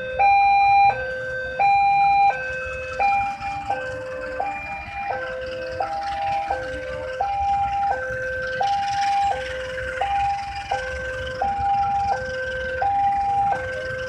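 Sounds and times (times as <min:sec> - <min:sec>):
two-tone crossing alarm: 0:00.0 - 0:14.0
train wheels rumbling on track: 0:01.1 - 0:14.0.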